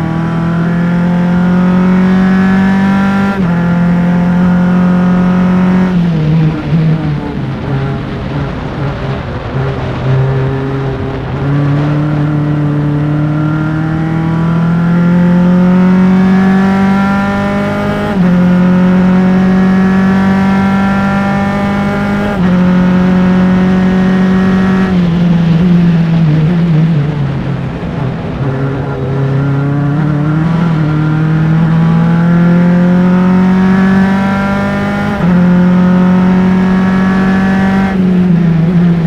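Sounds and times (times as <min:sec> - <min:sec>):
race car engine at full throttle: 0:00.0 - 0:39.0.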